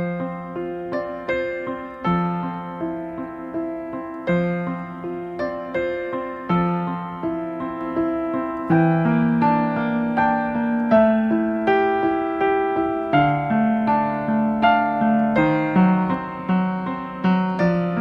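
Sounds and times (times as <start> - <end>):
slow gentle piano melody: 0.0 - 18.0.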